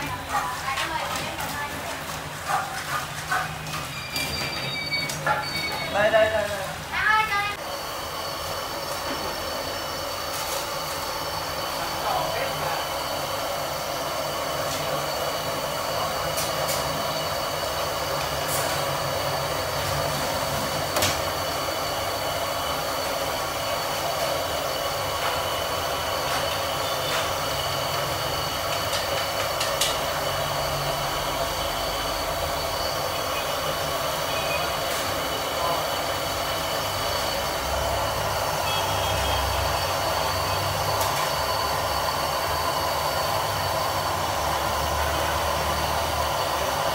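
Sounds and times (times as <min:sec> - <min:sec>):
water boiling hard: 0:00.0 - 0:04.1, 0:05.2 - 0:46.9
gas burner hissing: 0:02.5 - 0:46.9.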